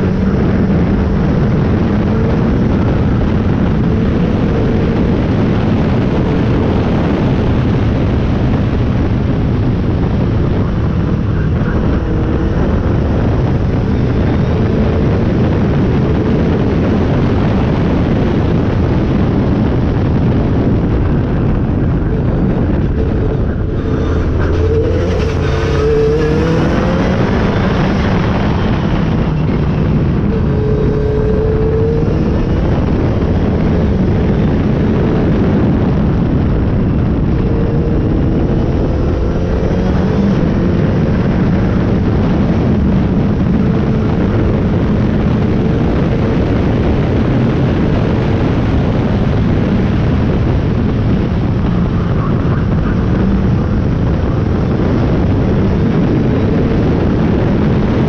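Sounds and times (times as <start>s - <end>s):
car engine and exhaust drone: 0.0s - 58.0s
road rumble: 0.0s - 58.0s
wind noise: 0.0s - 58.0s.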